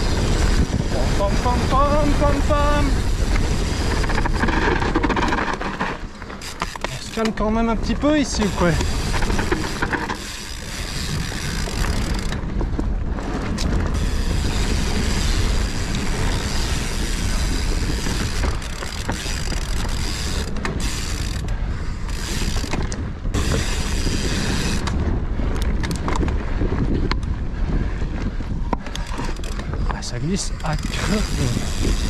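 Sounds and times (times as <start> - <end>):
bike rattling over rough trail: 0.0 - 32.0
wind rumble on microphone: 0.0 - 32.0.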